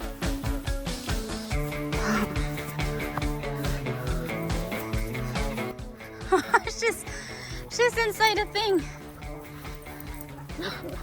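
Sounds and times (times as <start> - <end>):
steady drum beat: 0.0 - 11.0
upbeat guitar rock music: 0.0 - 11.0.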